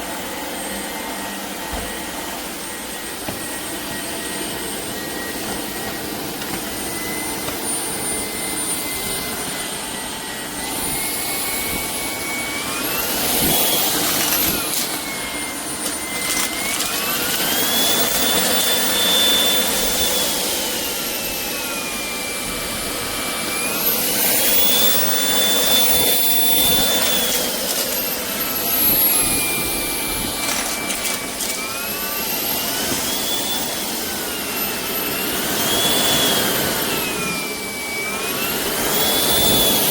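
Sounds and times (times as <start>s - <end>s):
stick vacuum motor whine: 0.0s - 39.9s.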